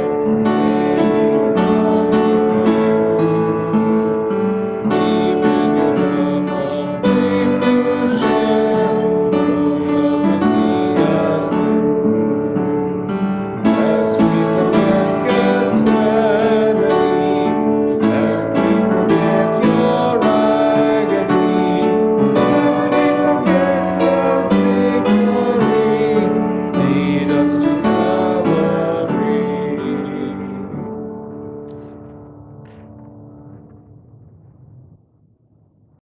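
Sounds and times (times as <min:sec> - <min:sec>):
slow piano chords: 0:00.0 - 0:36.0.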